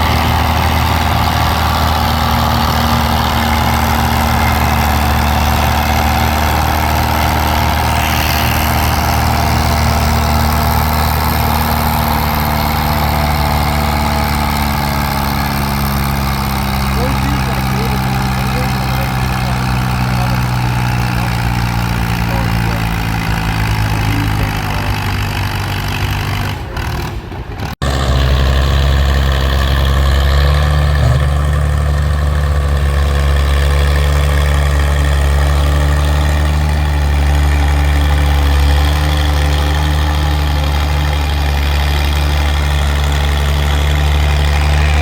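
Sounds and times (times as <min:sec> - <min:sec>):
heavier engine running: 0:00.0 - 0:45.0
tractor engine running: 0:00.0 - 0:45.0.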